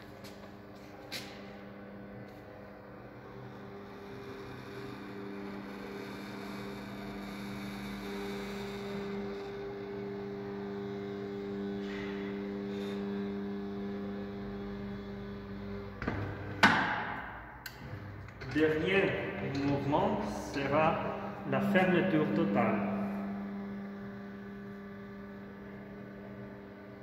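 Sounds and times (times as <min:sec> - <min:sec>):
gate motor humming: 0:00.0 - 0:27.0.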